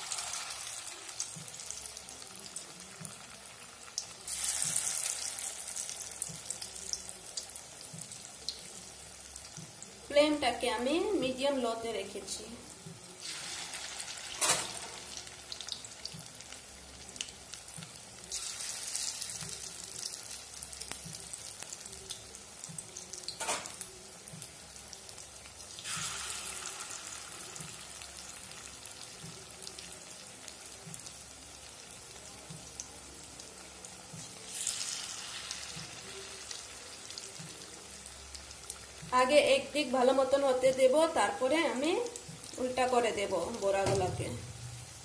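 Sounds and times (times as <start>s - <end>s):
batter deep-frying in oil: 0.0s - 45.0s.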